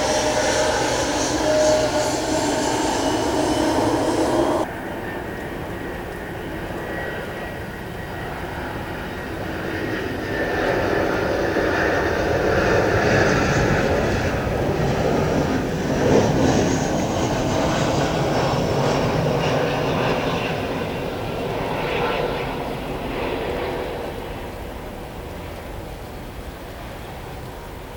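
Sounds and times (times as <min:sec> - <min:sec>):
airliner engines passing: 0:00.0 - 0:27.9.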